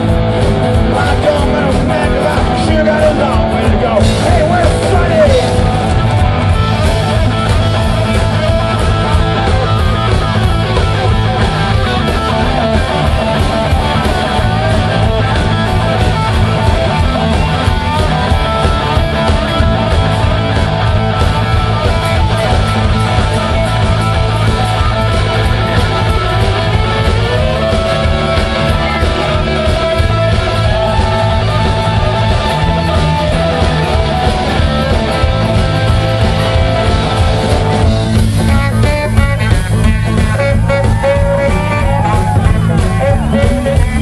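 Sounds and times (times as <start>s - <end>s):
electric guitar: 0.0s - 44.0s
live rock band playing: 0.0s - 44.0s.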